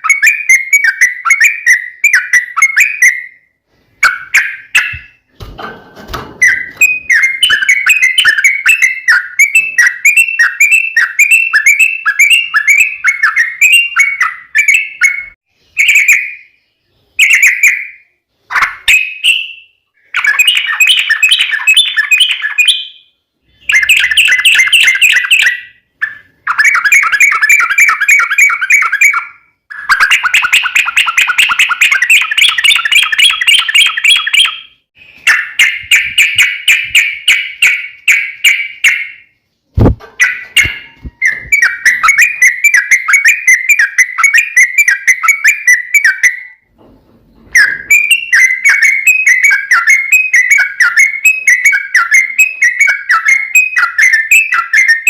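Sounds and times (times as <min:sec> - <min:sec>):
bird singing: 0:00.0 - 0:05.3, 0:06.3 - 0:46.7, 0:47.4 - 0:55.0.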